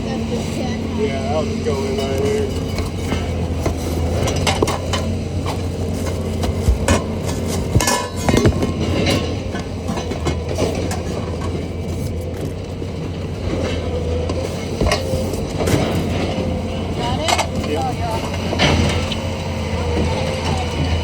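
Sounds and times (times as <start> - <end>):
low mechanical hum: 0.0 - 21.0
scrap metal clanking: 0.0 - 21.0.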